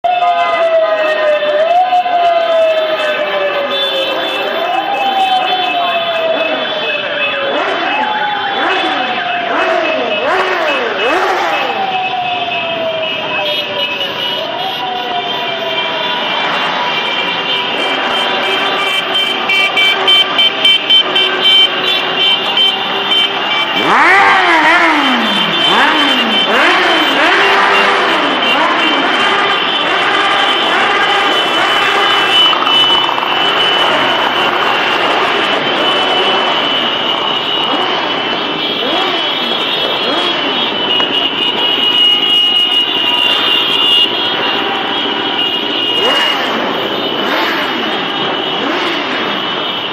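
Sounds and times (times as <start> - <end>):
street traffic noise: 0.0 - 49.9
motorcycle engines revving: 0.1 - 49.9
high-pitched horn toots: 5.5 - 12.1, 13.0 - 49.9.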